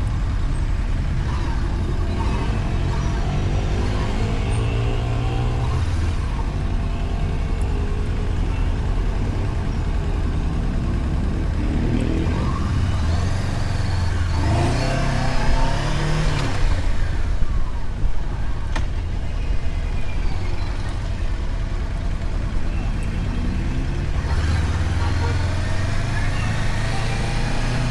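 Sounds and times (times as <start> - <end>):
motorcycle engine running: 0.0 - 27.9
road and wind noise: 0.0 - 27.9.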